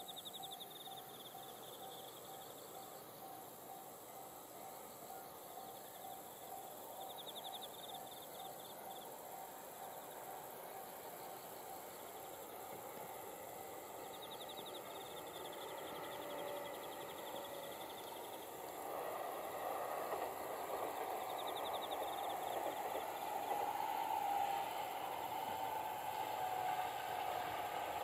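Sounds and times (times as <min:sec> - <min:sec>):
distant train running: 0:00.0 - 0:28.0
insects trilling: 0:00.0 - 0:28.0.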